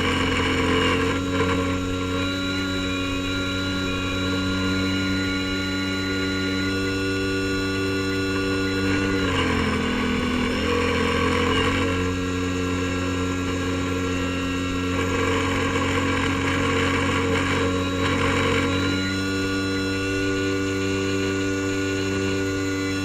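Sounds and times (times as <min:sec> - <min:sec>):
airboat engine and propeller drone: 0:00.0 - 0:23.0.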